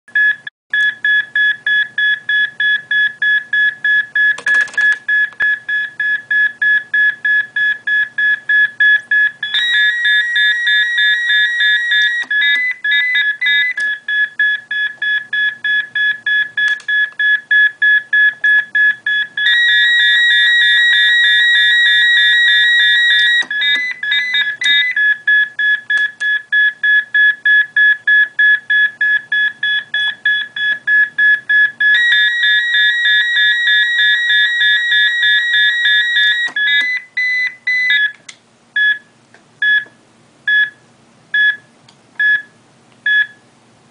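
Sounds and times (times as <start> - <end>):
heart monitor beeping: 0.2 - 38.1, 39.6 - 40.8.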